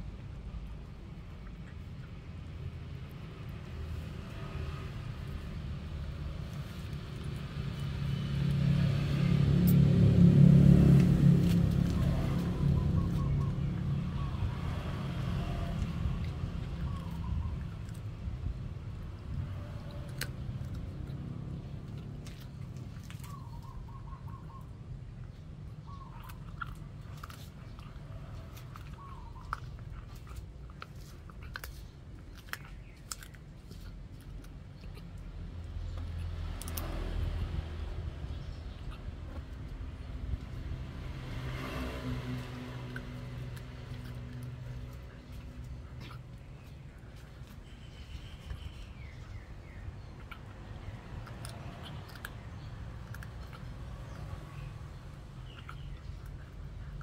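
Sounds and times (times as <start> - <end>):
engine rumble: 0.0 - 57.0
puppy teeth crunching on bone: 4.5 - 23.9, 25.4 - 48.7, 49.4 - 57.0.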